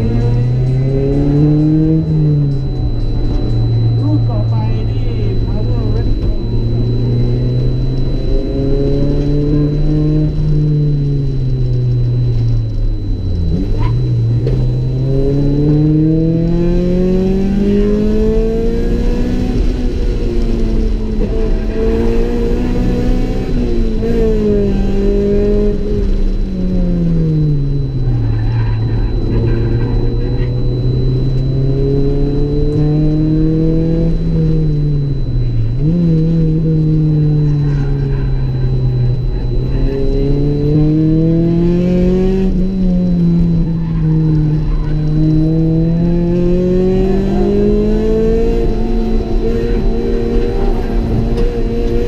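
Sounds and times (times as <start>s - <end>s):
car engine pulling hard: 0.0s - 52.0s.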